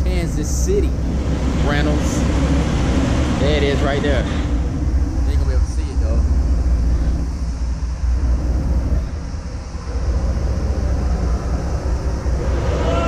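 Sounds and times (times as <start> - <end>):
low rumble of trains: 0.0 - 13.0.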